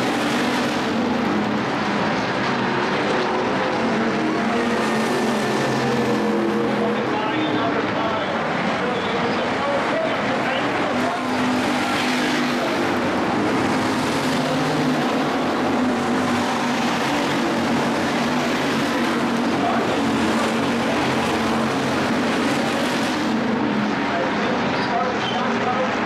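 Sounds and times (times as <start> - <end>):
race car engines roaring: 0.0 - 26.0.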